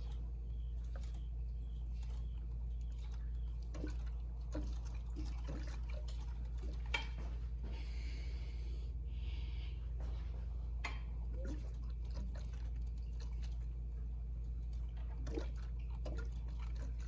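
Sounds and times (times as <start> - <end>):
coolant gurgling: 0.0 - 9.3, 10.8 - 17.0
steady low hum: 0.0 - 17.0.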